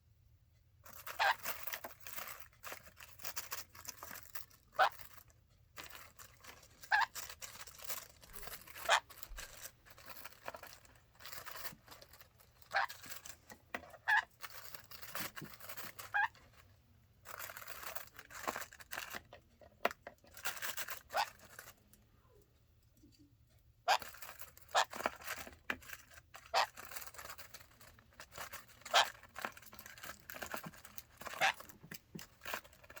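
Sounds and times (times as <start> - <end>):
crinkling and rustling: 0.8 - 23.3, 23.9 - 33.0
birds pecking at bag: 0.9 - 21.9, 23.9 - 33.0.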